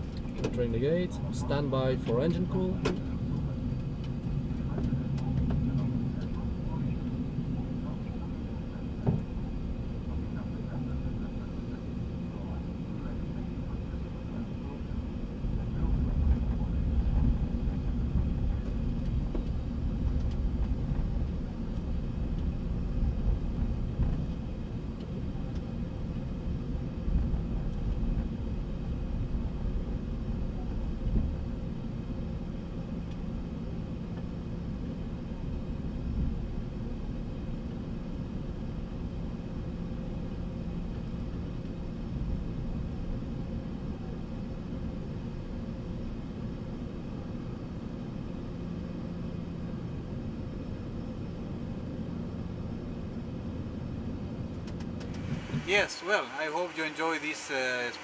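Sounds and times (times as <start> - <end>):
aircraft engines idling rumble: 0.0 - 58.0.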